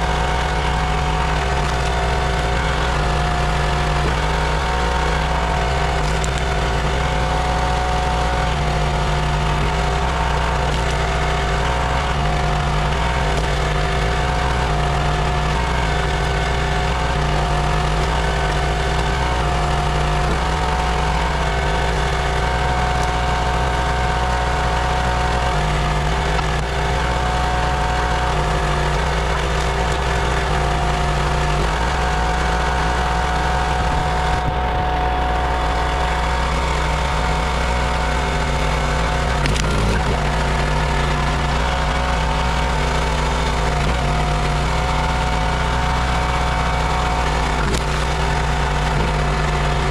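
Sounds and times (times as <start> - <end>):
small gasoline engine running: 0.0 - 49.9.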